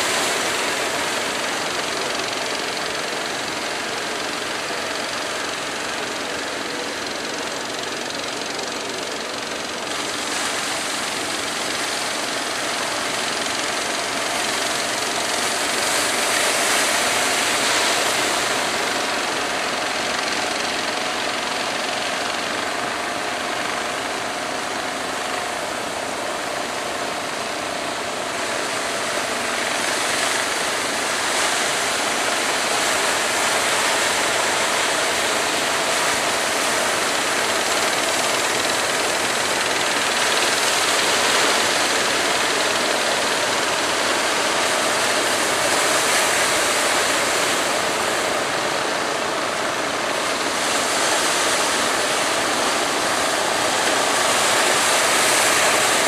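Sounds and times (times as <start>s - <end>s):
boat engines running: 0.0s - 56.0s
faint steady whine: 0.0s - 56.0s.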